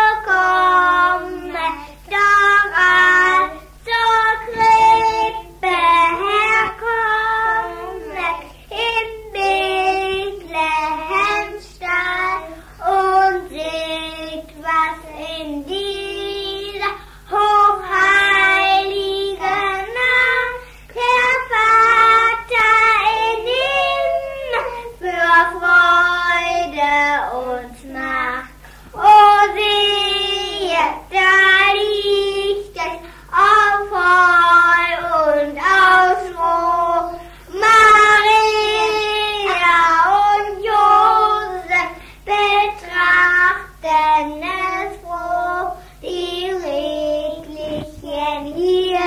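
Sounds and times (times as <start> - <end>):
child singing: 0.0 - 49.0.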